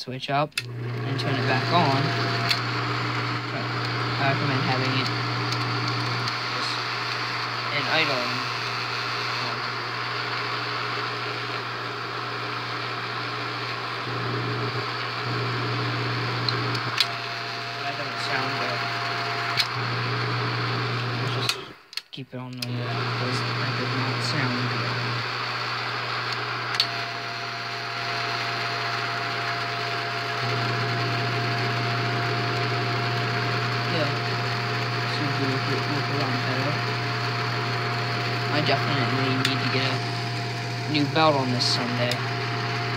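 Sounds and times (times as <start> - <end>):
film projector motor hum: 0.6 - 21.9, 22.6 - 42.9.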